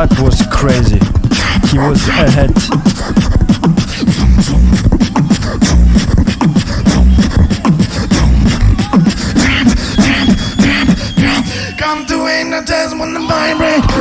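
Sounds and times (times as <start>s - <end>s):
beatboxing into a microphone: 0.0s - 14.0s.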